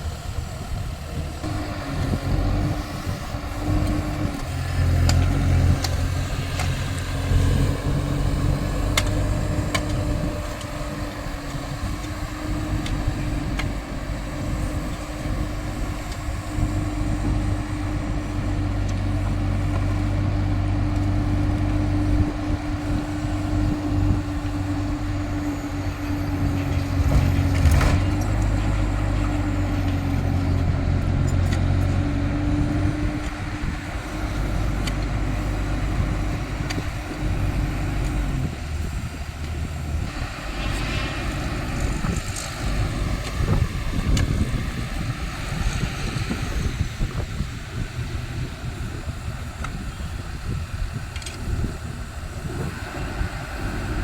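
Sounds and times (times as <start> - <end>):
excavator diesel engine running: 0.0 - 54.0
steady whine: 0.0 - 54.0.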